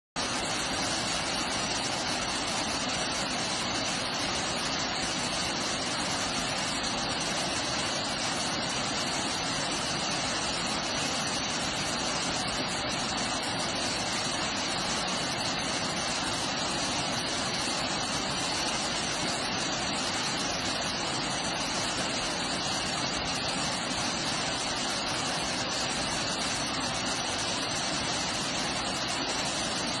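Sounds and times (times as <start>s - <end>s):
water pouring into river: 0.2s - 30.0s.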